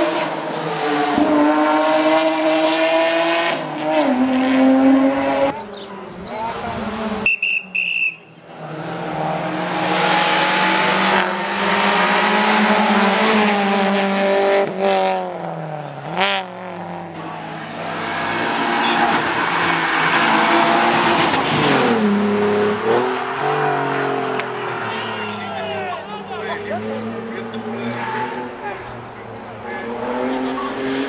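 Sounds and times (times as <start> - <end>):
rally car engine revving high: 0.0 - 7.3, 8.4 - 31.0.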